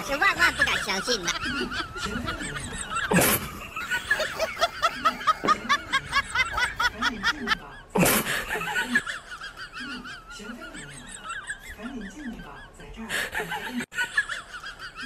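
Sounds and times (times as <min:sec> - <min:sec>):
snickering laughter: 0:00.2 - 0:15.0.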